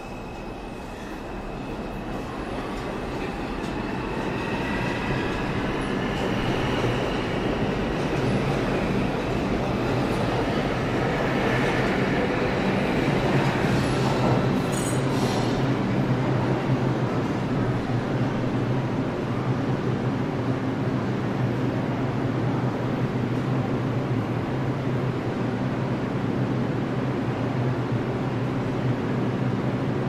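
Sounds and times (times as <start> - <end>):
subway train running: 0.0 - 30.0.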